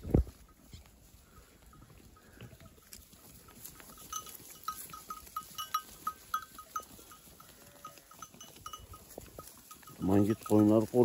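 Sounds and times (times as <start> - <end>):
sheep neck bells clinking: 0.2 - 11.0.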